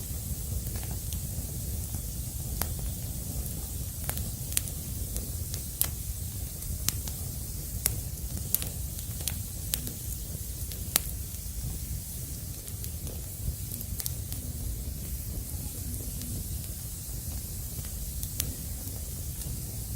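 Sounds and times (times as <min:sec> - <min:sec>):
firewood crackling and popping: 0:00.0 - 0:19.9.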